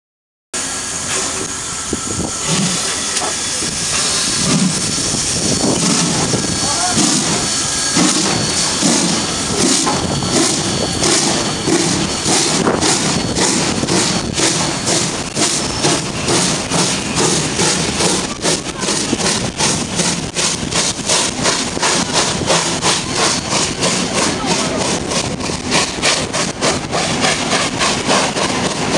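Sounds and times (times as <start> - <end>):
low locomotive puffs: 0.6 - 28.9
steam locomotive hissing: 0.6 - 28.9.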